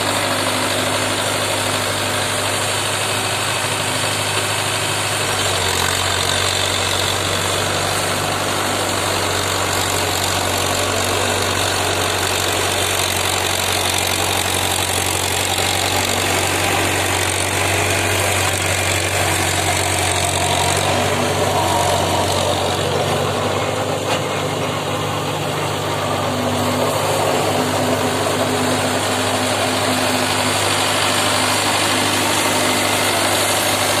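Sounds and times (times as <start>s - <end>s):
rotavator churning soil: 0.0s - 34.0s
tractor diesel engine running: 0.0s - 34.0s.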